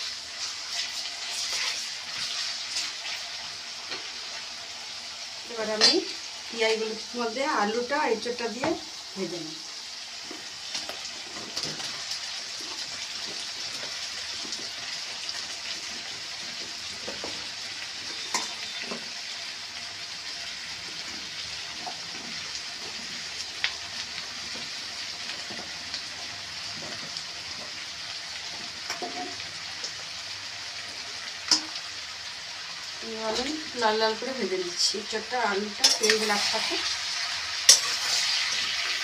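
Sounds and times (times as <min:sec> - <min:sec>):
oil sizzling in a pan: 0:00.0 - 0:39.0.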